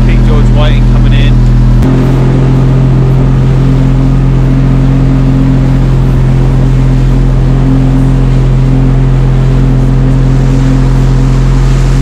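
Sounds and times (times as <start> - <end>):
boat engine running: 0.0 - 12.0
water rushing from hull: 0.0 - 12.0.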